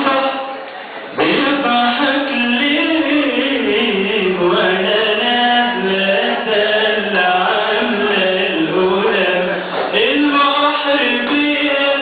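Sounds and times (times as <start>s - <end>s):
man singing slow melody: 0.0s - 12.0s.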